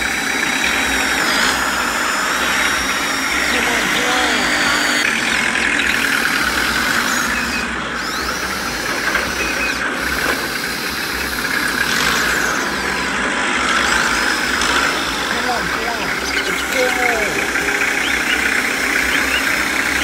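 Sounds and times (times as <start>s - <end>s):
toy motor whirring with whine: 0.0s - 20.0s.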